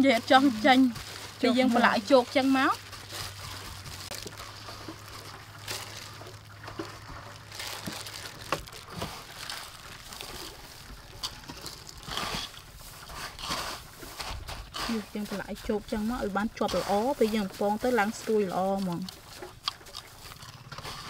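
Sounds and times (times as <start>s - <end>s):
breadcrumbs rustling: 0.0s - 21.0s
wet squishing of chicken: 0.1s - 21.0s.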